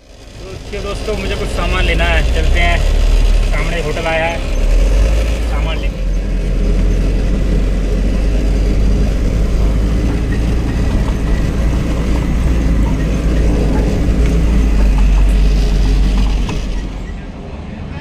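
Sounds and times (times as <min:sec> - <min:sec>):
truck diesel engine rumble: 0:00.0 - 0:18.0.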